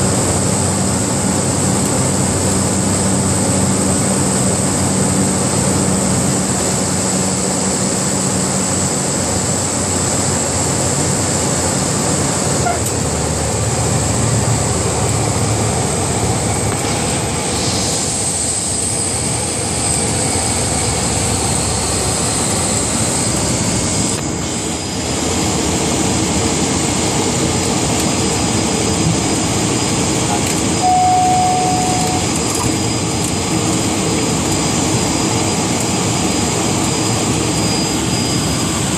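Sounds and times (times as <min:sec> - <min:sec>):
high steady whine: 0:00.0 - 0:38.9
propeller aircraft engine drone: 0:00.0 - 0:38.9.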